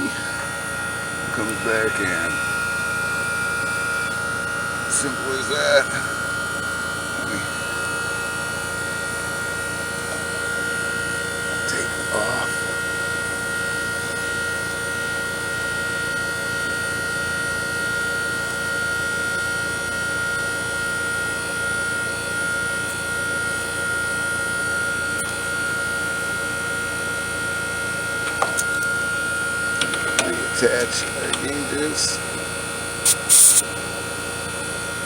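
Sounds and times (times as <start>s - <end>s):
air conditioner unit whirring: 0.0s - 35.0s.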